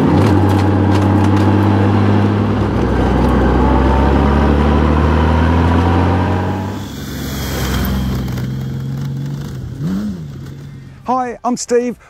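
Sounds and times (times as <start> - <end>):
motorcycle engine running: 0.0 - 11.1
wind and road noise: 0.0 - 12.0.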